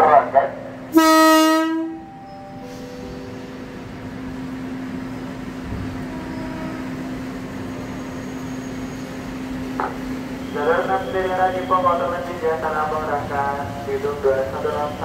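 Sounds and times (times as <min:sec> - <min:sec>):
electric train humming: 0:00.0 - 0:15.0
train wheels on rails: 0:02.6 - 0:15.0.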